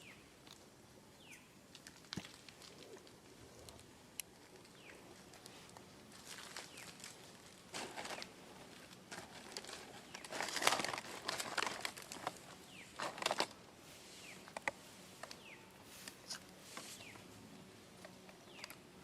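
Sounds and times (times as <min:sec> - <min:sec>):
rustling and crinkling: 0:01.6 - 0:18.8.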